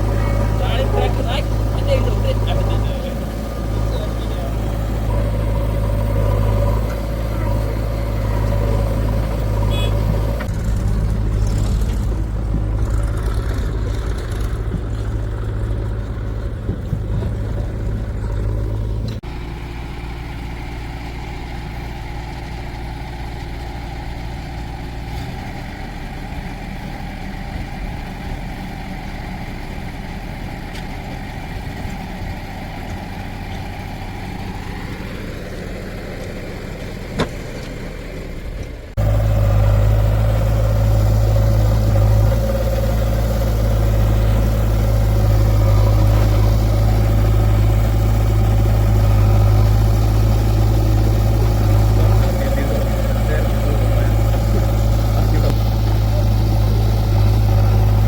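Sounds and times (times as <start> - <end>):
heavy diesel machinery engines: 0.0 - 58.0.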